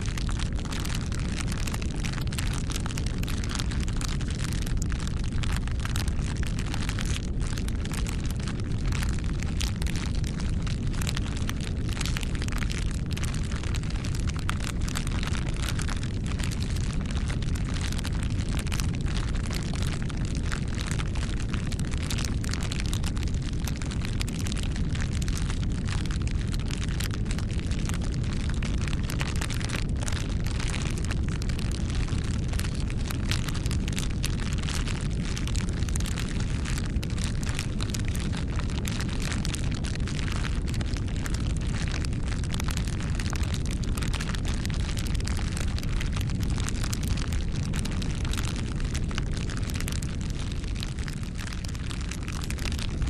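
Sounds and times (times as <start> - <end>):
low rumble of flames: 0.0 - 53.0
wood crackling and popping: 0.0 - 53.0.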